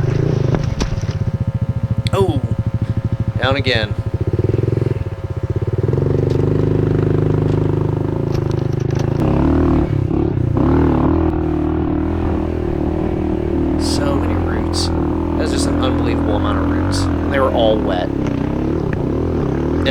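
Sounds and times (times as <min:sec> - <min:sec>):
small motorbike engine running: 0:00.0 - 0:19.9.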